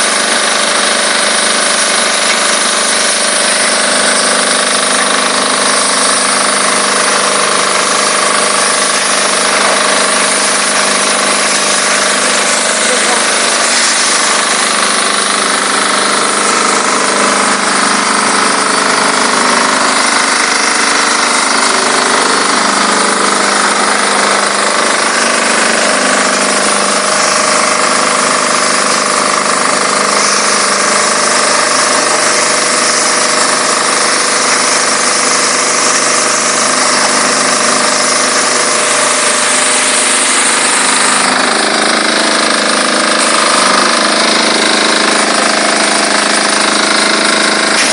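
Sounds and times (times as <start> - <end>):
pressure washer engine and pump hum: 0.0 - 47.9
spray jet hissing: 0.0 - 47.9.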